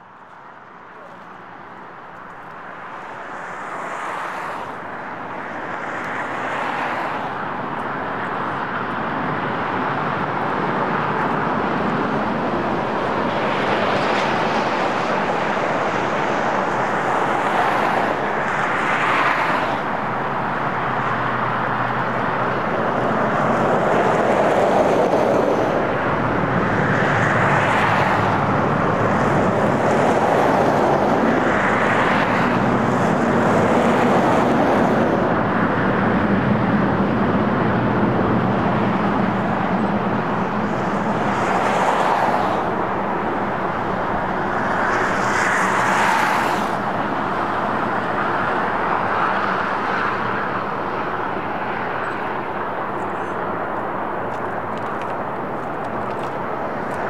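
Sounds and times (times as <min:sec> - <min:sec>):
diesel locomotive engine hum: 0:00.0 - 0:57.0.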